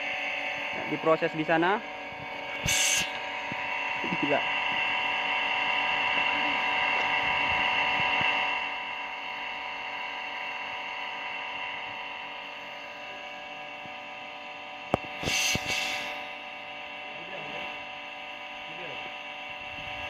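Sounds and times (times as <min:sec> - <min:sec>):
steady machine whine: 0:00.0 - 0:20.0.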